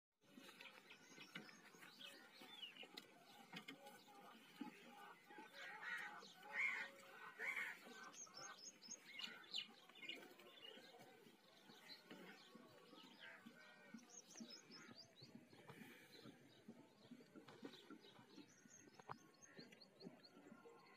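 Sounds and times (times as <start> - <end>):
small birds chirping: 0.2 - 20.9.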